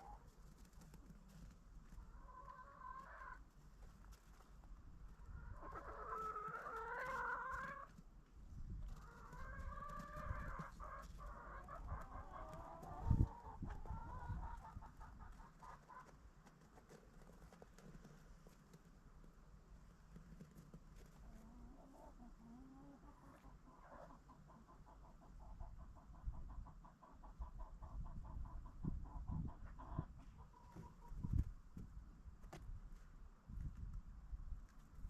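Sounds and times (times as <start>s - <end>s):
chickens clucking and calling: 0.0s - 18.7s, 20.4s - 32.0s.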